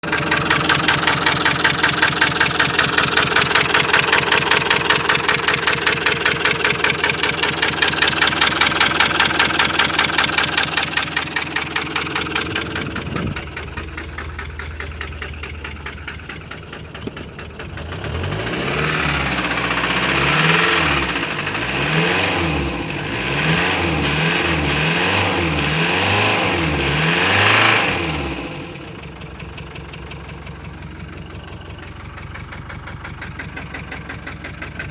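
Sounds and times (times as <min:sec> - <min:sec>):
diesel engine knocking and misfiring: 0:00.0 - 0:34.9.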